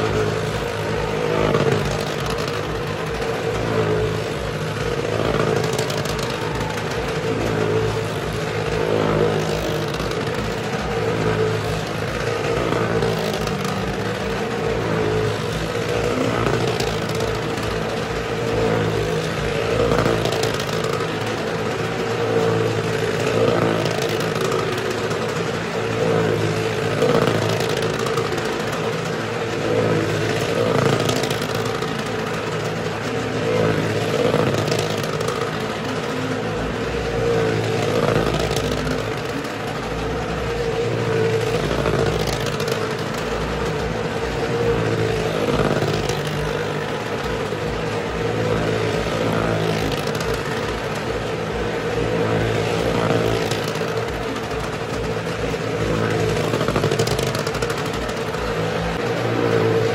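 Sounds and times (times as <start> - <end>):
vehicle engines droning: 0.0 - 59.9.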